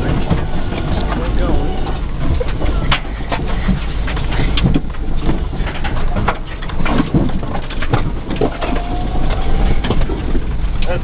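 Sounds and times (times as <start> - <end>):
car cabin low rumble: 0.0 - 11.0
knocks and rattles: 0.0 - 11.0.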